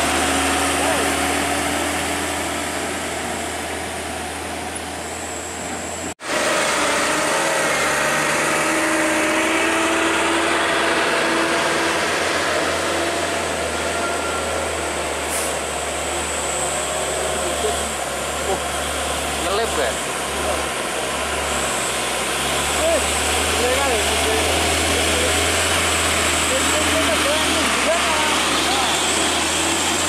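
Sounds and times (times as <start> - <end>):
diesel truck engines: 0.0 - 30.0.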